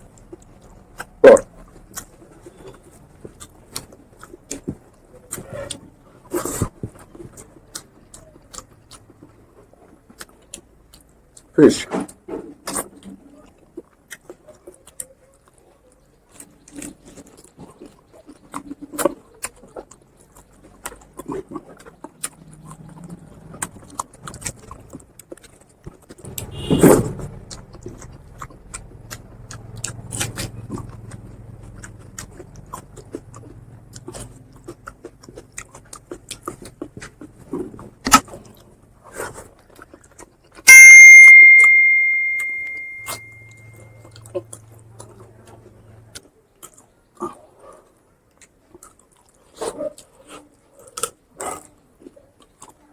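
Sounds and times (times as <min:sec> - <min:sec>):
chewing food: 0:00.0 - 0:40.7, 0:41.4 - 0:52.9.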